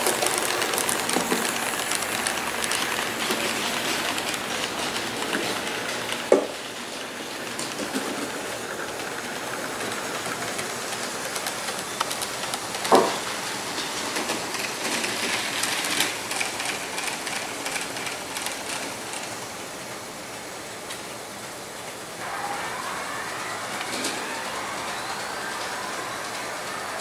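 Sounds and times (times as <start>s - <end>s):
model train wheels clicking: 0.0s - 27.0s.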